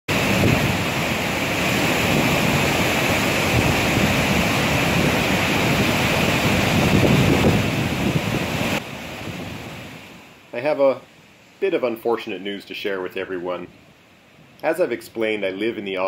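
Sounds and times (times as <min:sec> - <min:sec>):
rushing whitewater: 0:00.1 - 0:16.0.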